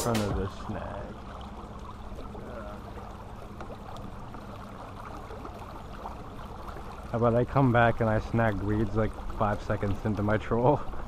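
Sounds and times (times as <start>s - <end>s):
water around hull: 0.0s - 11.0s.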